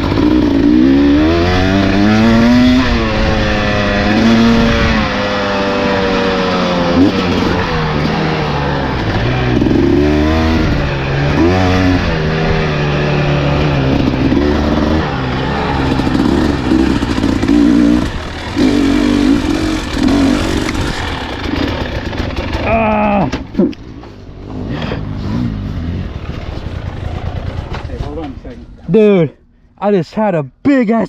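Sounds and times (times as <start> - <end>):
dirt bike engine revving: 0.0 - 28.2.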